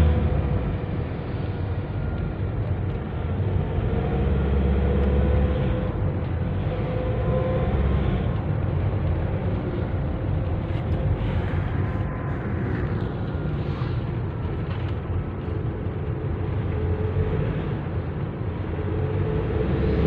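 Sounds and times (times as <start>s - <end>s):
van engine and road rumble: 0.0s - 20.0s.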